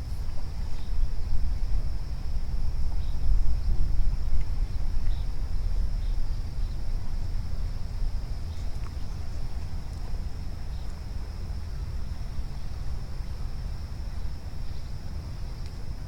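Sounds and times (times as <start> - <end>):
insect chorus: 0.0 - 16.0
wind rumble on microphone: 0.0 - 16.0.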